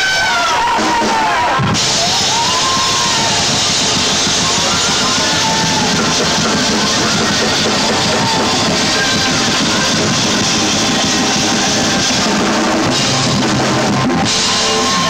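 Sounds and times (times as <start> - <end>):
drum kit with cymbals: 0.0 - 15.0
guitar: 0.0 - 15.0
live band playing: 0.0 - 15.0.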